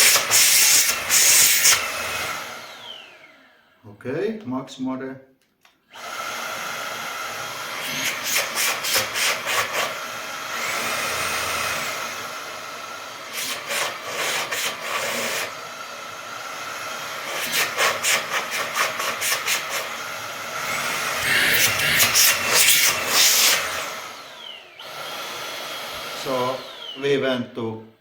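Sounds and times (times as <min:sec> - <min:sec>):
stick vacuum whining: 0:00.0 - 0:03.7, 0:05.9 - 0:27.4.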